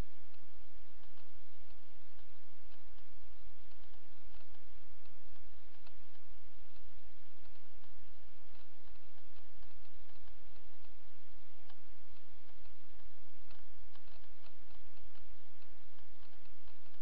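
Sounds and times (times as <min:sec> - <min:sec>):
faint irregular clicks: 0:00.0 - 0:17.0
low hum and hiss: 0:00.0 - 0:17.0.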